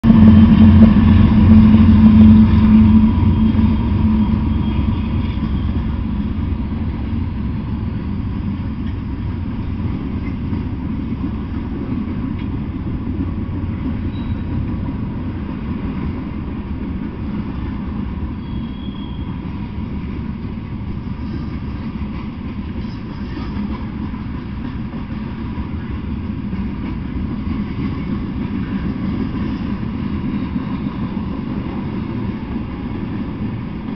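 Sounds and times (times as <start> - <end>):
locomotive engines droning: 0.0 - 33.9
train cars rumbling on rails: 0.0 - 33.9.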